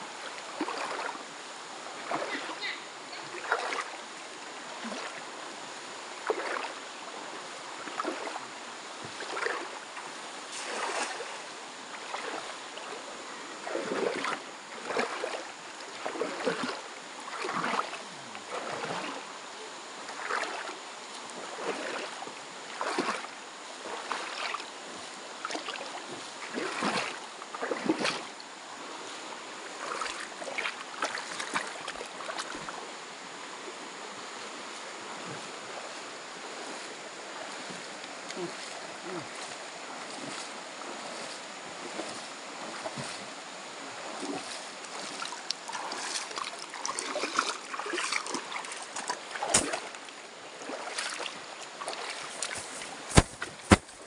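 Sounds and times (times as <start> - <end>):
rush of flowing water: 0.0 - 54.0
feet sloshing through water: 0.2 - 5.5, 6.1 - 19.3, 20.0 - 32.9, 33.6 - 54.0.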